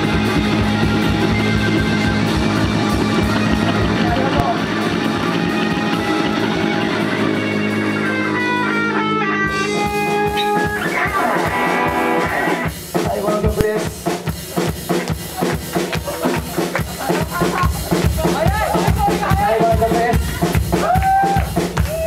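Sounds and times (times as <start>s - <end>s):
drum kit beat: 0.0s - 22.0s
electric guitar: 0.0s - 22.0s.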